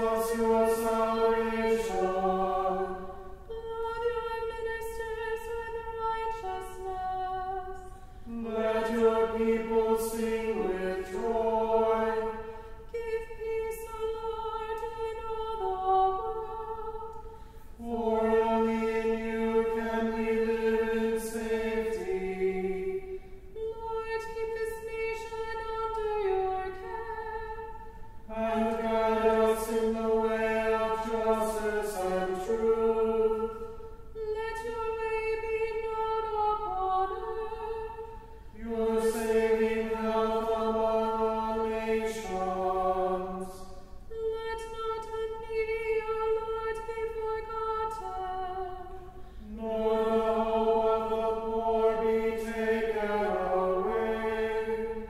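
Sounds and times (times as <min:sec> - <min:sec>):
group singing a cappella: 0:00.0 - 0:55.0.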